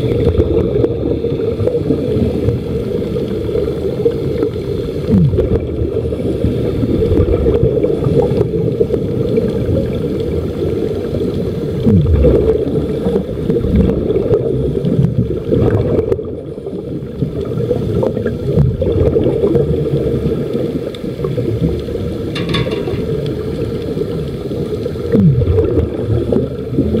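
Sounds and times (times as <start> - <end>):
underwater rumble with gurgling: 0.0 - 27.0.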